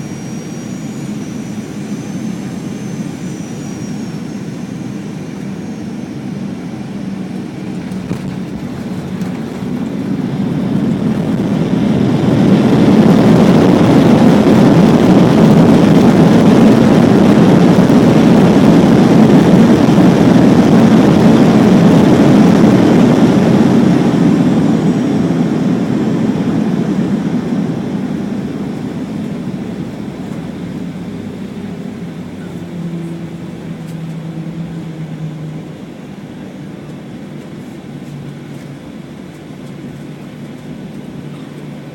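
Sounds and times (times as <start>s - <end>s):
steady cabin hum: 0.0s - 19.4s, 20.8s - 41.9s
jet engine reverse-thrust roar: 0.0s - 41.9s.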